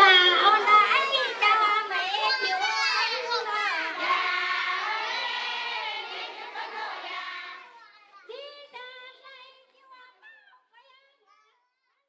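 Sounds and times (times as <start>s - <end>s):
children's voices: 0.0s - 10.3s.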